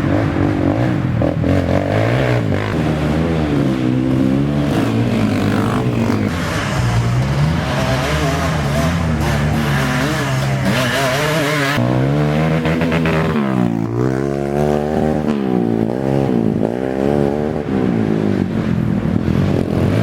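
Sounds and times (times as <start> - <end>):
atv engines revving: 0.0 - 20.0.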